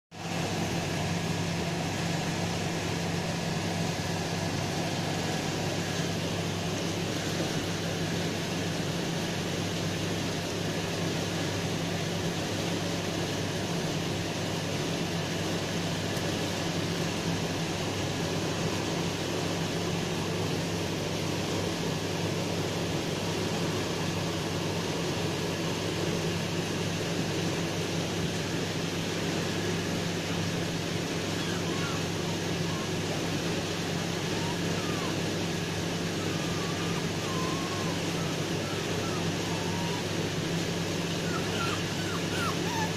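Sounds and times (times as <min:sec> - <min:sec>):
constant hiss: 0:00.2 - 0:42.9.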